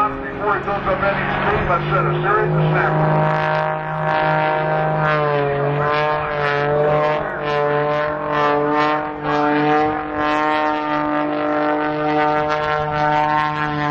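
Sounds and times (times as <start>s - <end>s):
airplane piston engine: 0.0s - 13.9s.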